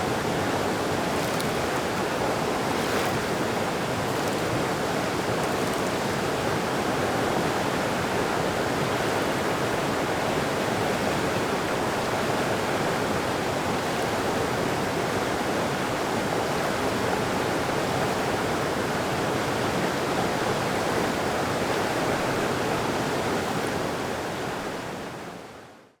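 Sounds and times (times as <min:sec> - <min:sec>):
creek water rushing: 0:00.0 - 0:25.1.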